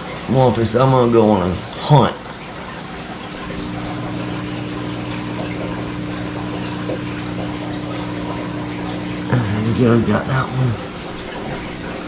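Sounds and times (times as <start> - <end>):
aquarium pump humming: 0.0 - 12.0
circulating water hiss: 0.0 - 12.0.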